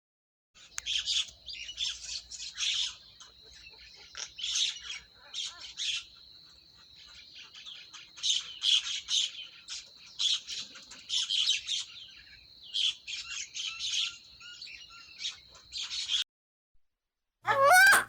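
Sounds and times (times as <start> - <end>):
bird chirps and squawks: 0.6 - 16.2, 17.5 - 18.0.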